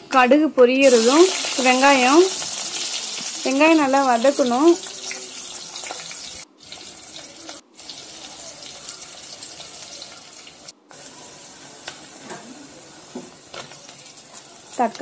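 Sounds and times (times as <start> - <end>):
onions sizzling in hot oil: 0.8 - 15.0.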